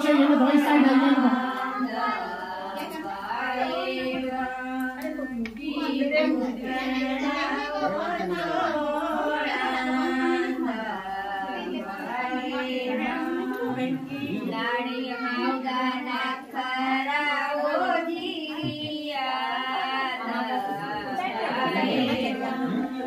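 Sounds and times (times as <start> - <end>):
women singing together: 0.0 - 23.0.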